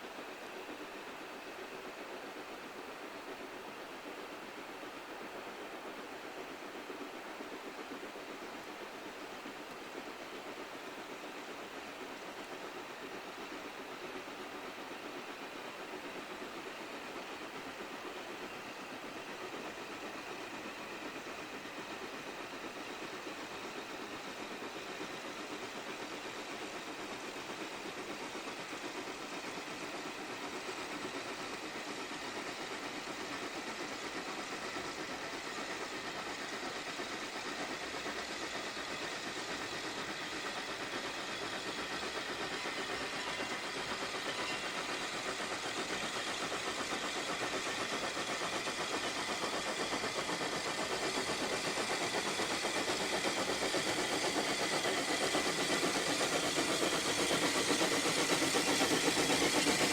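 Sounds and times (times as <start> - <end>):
steam locomotive approaching: 0.0 - 59.9.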